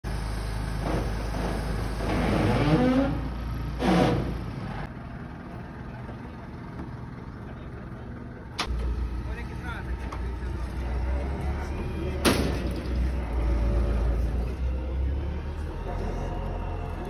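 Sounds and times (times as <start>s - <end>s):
crane engine running: 0.1s - 17.0s.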